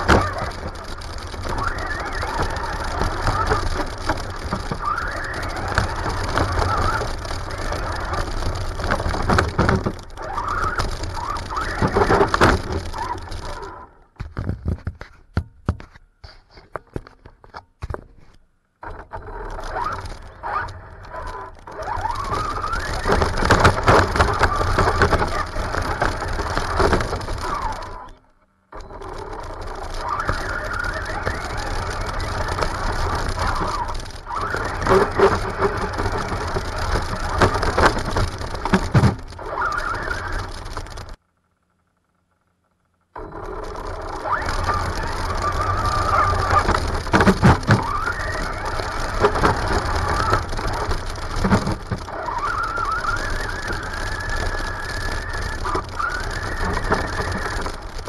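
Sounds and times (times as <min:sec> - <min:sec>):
grass scraping under chassis: 0:00.0 - 0:13.8, 0:19.2 - 0:28.0, 0:29.2 - 0:41.2, 0:43.7 - 0:58.0
electric motor whining: 0:00.0 - 0:14.1, 0:18.8 - 0:41.2, 0:43.2 - 0:58.0
scattered clicks: 0:00.0 - 0:16.0, 0:16.6 - 0:41.2, 0:43.1 - 0:58.0.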